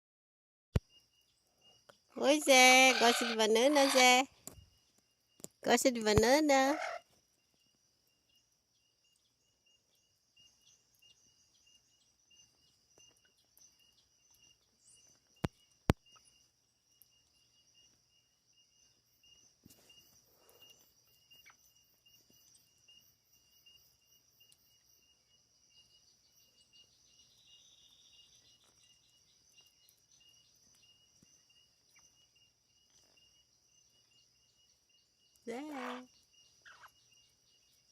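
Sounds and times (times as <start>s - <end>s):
insects chirring: 0.8s - 37.9s.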